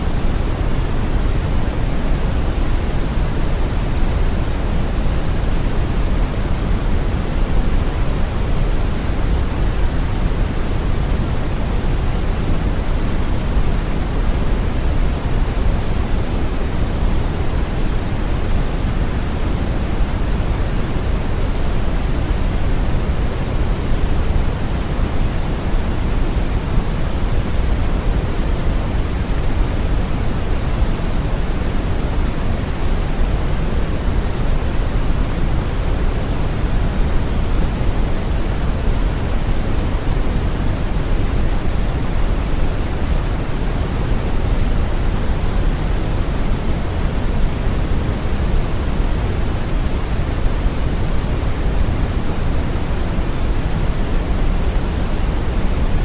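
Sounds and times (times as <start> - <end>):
brown noise hiss: 0.0 - 56.0.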